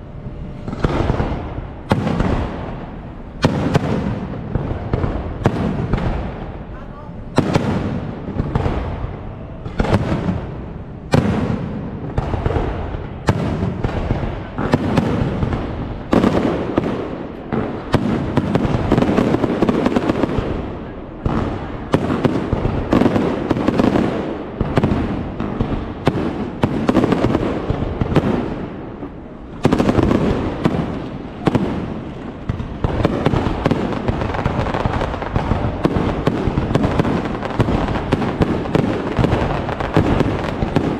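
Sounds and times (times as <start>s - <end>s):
fireworks booming and crackling: 0.0s - 40.9s.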